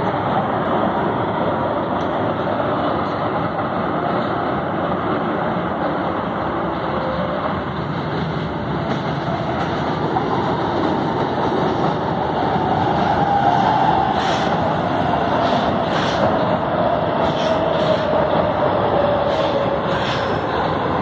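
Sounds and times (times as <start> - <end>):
train running noise: 0.0 - 21.0.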